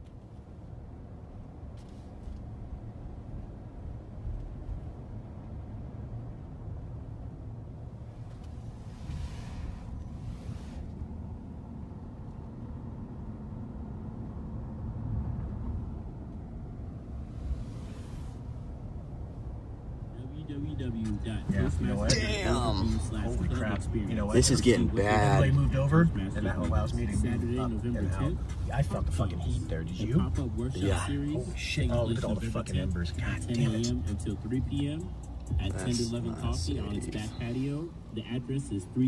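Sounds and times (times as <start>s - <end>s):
car cabin rumble: 0.0s - 39.0s.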